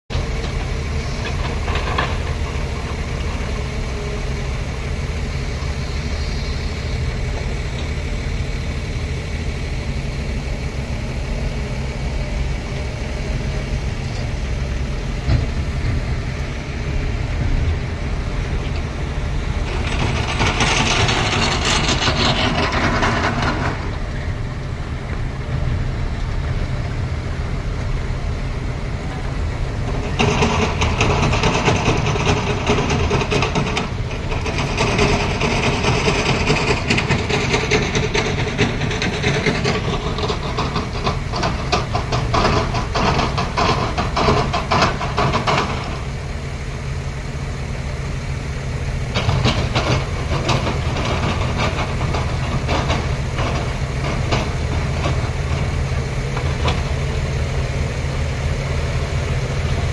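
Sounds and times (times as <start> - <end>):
diesel engines droning: 0.1 - 59.9.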